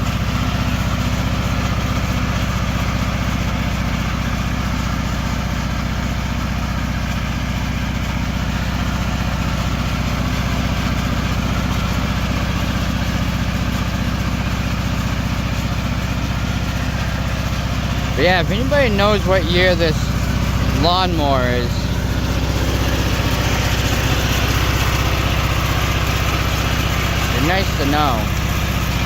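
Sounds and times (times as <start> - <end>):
lawn mower engine droning: 0.0 - 29.0.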